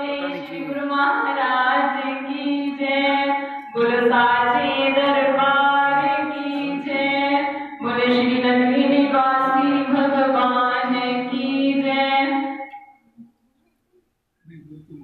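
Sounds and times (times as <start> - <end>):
person singing devotional song: 0.0 - 12.7.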